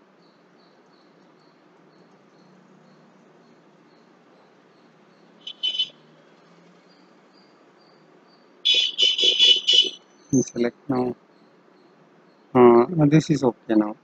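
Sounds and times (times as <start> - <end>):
bird chirping: 0.0 - 13.9
faint steady background noise: 0.0 - 14.0.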